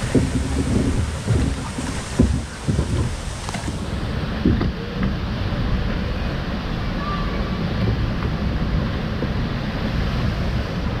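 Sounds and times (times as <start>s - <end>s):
water rushing along a channel: 0.0s - 11.0s
wind rumbling on microphone: 0.0s - 11.0s.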